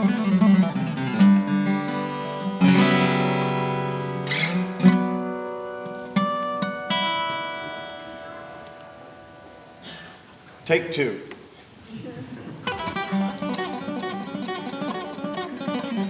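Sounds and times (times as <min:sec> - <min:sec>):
acoustic guitar chords and notes: 0:00.0 - 0:10.6, 0:12.5 - 0:16.0.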